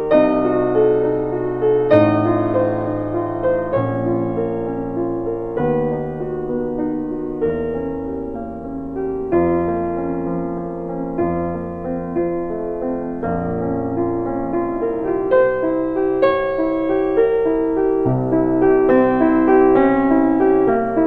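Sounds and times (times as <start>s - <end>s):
soft piano chords: 0.0s - 21.0s.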